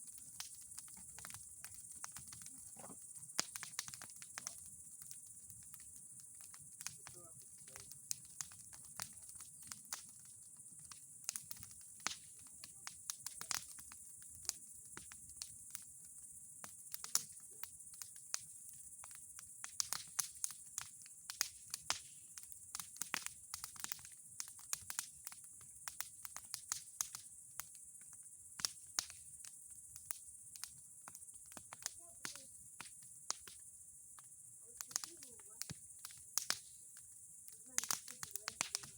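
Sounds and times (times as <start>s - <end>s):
bonfire crackling: 0.0s - 38.9s.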